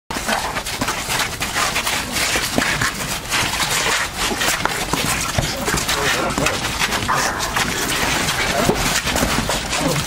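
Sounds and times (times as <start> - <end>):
feet shuffling: 0.1 - 10.0.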